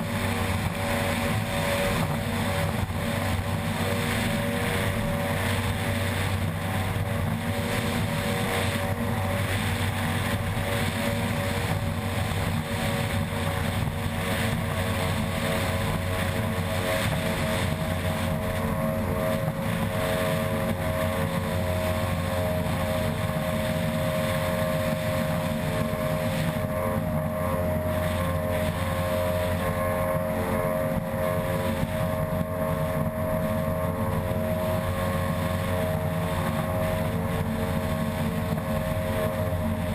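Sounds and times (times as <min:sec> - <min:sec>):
outboard engine running flat out: 0:00.0 - 0:39.9.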